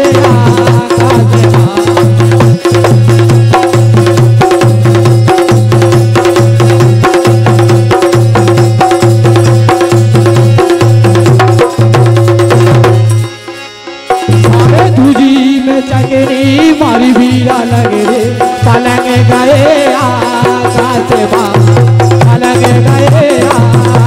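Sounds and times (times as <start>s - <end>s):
drums playing fast beat: 0.0s - 24.0s.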